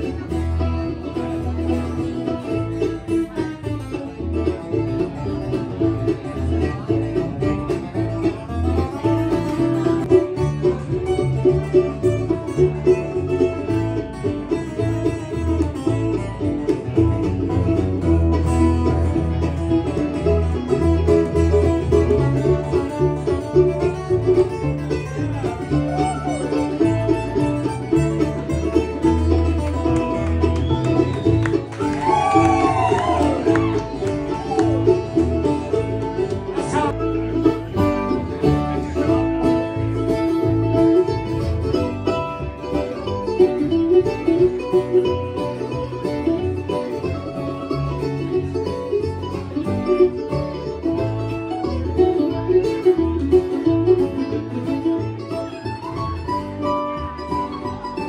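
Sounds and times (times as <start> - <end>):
acoustic string band playing: 0.0 - 58.0
banjo picking: 0.0 - 58.0
bass line: 0.0 - 58.0
guitar picking: 0.0 - 58.0.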